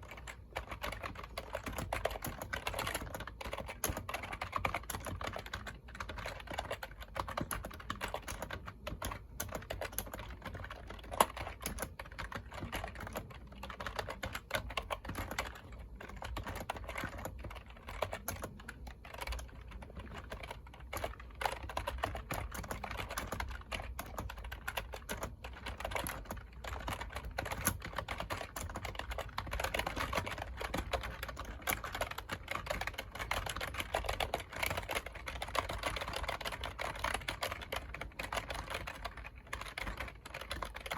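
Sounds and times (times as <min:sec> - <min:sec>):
computer keyboard typing: 0:00.0 - 0:40.9.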